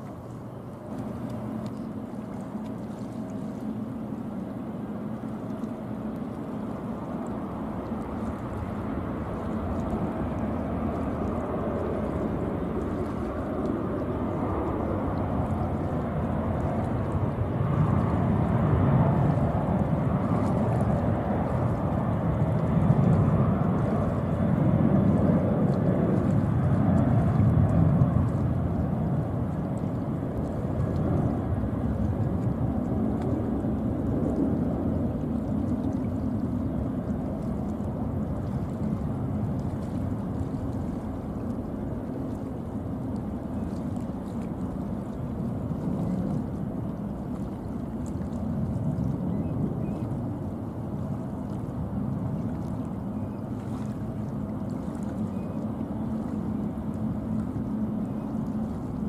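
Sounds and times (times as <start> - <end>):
distant jet engine rumble: 0.0 - 59.0.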